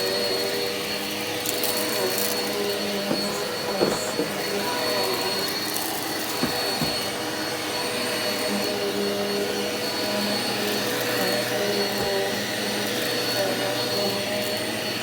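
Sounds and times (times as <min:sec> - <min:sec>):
vacuum cleaner on carpet: 0:00.0 - 0:15.0.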